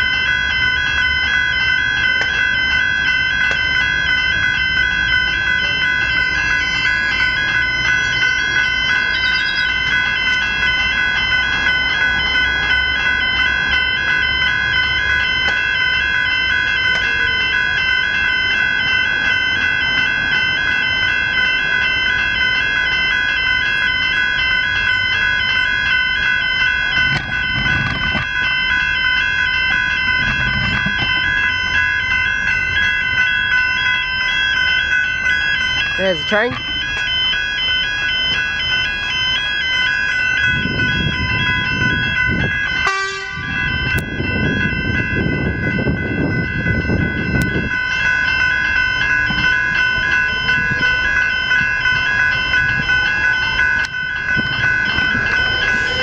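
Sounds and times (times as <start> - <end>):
level crossing bells ringing: 0.0 - 56.0.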